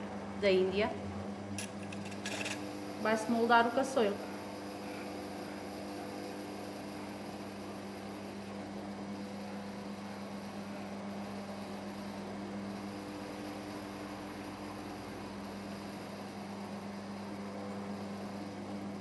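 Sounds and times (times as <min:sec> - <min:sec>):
potter's wheel motor hum: 0:00.0 - 0:19.0.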